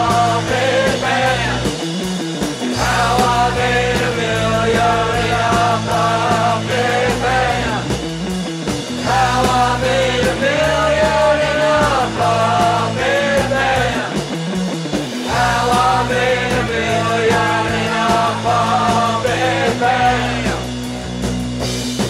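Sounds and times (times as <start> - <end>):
men singing loudly: 0.0 - 1.8, 2.7 - 8.0, 9.0 - 14.4, 15.2 - 20.9
rock band playing: 0.0 - 22.0.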